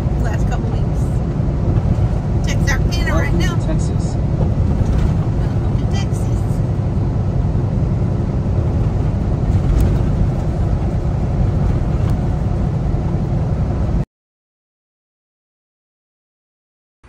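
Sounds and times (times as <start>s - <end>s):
truck engine and tyres rumbling: 0.0s - 14.1s.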